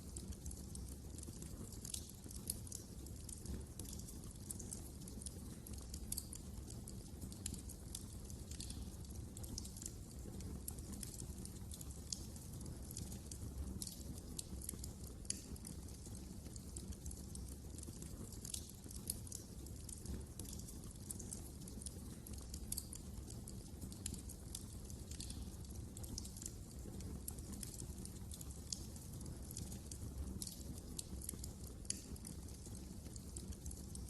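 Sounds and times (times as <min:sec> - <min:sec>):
fire crackling and popping: 0:00.0 - 0:34.0
fire rumbling: 0:00.1 - 0:34.0.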